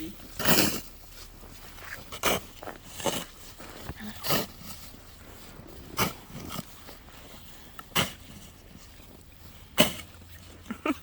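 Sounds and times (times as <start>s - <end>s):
snow shovel scraping snow: 0.1s - 10.9s.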